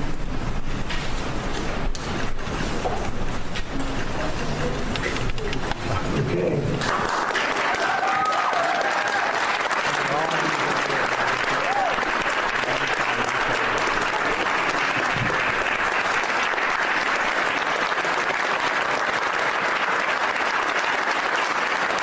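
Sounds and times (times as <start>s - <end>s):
audience applause: 4.3s - 22.0s.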